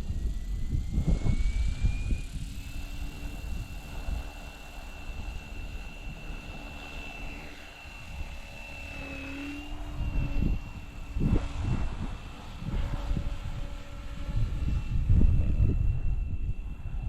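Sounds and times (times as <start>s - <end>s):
rc helicopter motor whine: 0.0s - 17.0s
wind buffeting microphone: 0.0s - 17.0s.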